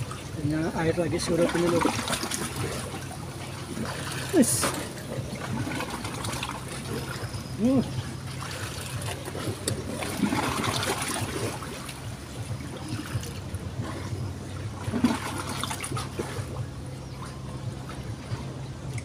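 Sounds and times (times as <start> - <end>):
shallow river water trickling: 0.0 - 19.0
water splashing: 0.0 - 19.0.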